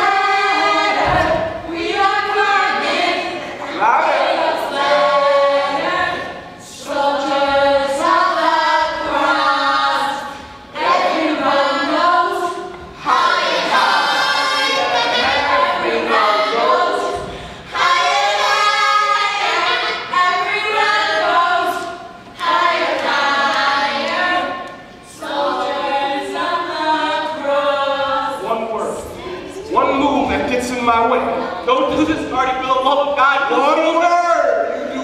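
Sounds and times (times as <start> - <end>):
group singing unaccompanied: 0.0 - 35.0.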